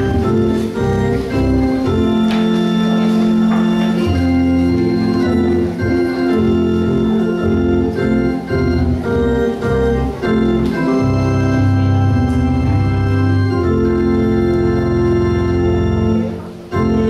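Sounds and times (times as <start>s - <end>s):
organ playing chords: 0.0s - 17.0s.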